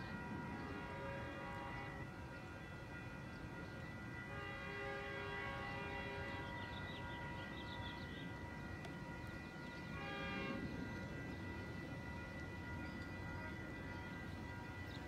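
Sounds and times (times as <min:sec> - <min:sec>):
distant locomotive horn: 0:00.0 - 0:02.9, 0:03.9 - 0:15.0.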